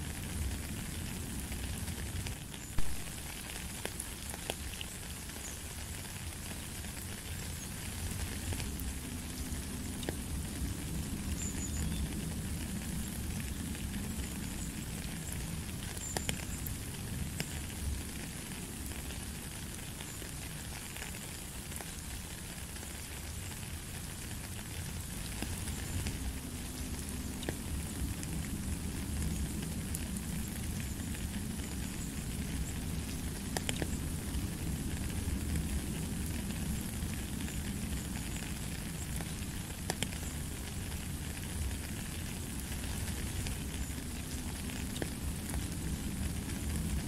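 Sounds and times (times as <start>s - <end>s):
rain falling on gravel path: 0.0s - 47.0s.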